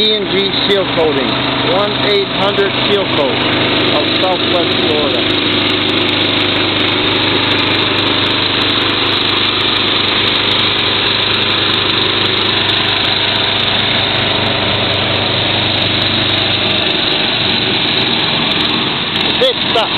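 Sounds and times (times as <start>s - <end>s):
small engine running: 0.0s - 19.9s.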